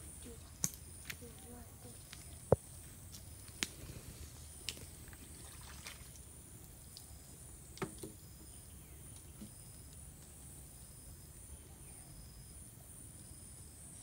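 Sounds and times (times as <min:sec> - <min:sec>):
faint high-pitched whine: 0:00.0 - 0:14.0.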